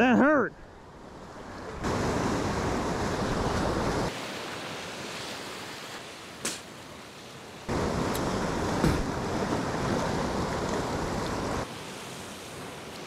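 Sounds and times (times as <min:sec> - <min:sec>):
ocean surf: 0:00.0 - 0:13.0.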